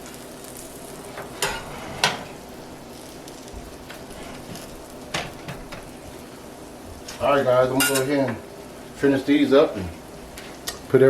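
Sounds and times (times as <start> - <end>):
cakes sizzling in oil: 0.0 - 11.0.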